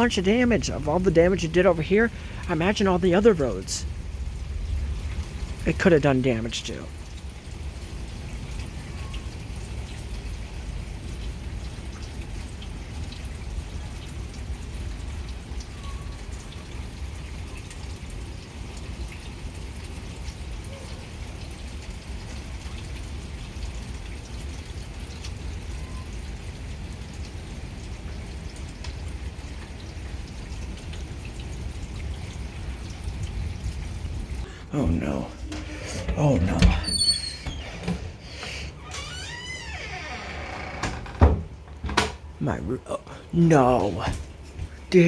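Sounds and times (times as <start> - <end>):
rain patter and drips: 0.0 - 45.0
water trickling: 0.0 - 45.0.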